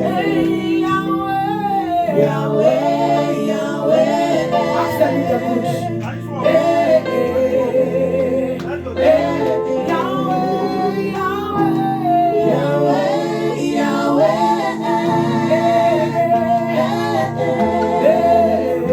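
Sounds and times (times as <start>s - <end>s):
instrumental chords: 0.0s - 18.9s
person singing gospel: 0.0s - 18.9s.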